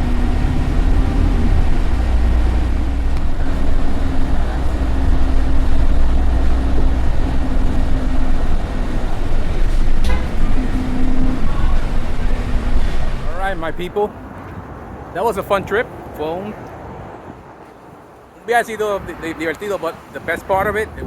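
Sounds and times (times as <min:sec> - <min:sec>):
bus engine rumbling: 0:00.0 - 0:21.0.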